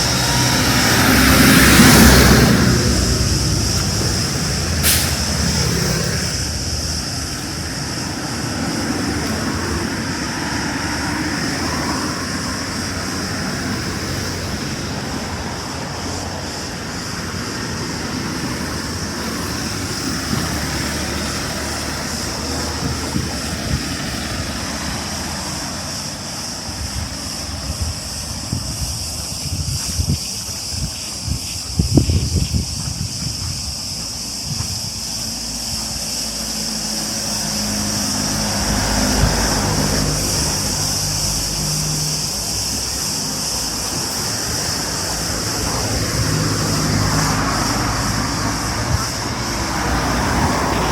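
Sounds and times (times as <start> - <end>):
cicadas buzzing: 0.0 - 50.9.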